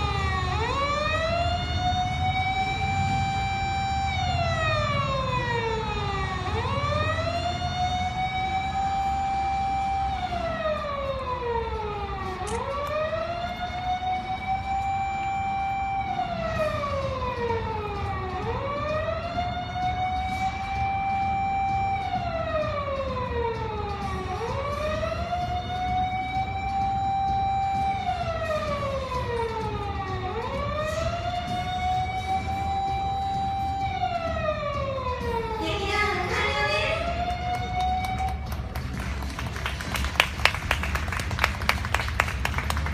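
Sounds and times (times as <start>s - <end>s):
vehicle siren wailing: 0.0s - 40.9s.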